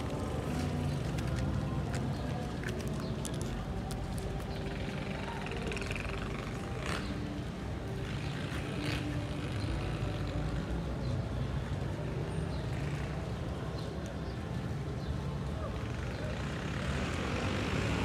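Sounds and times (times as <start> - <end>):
street noise: 0.0 - 18.0
vehicle engine humming: 0.0 - 18.0.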